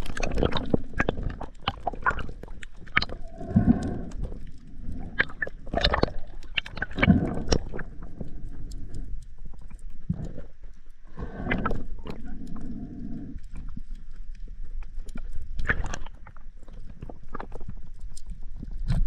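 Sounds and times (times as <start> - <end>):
sharp underwater clicks and knocks: 0.0 - 10.6, 13.5 - 19.0.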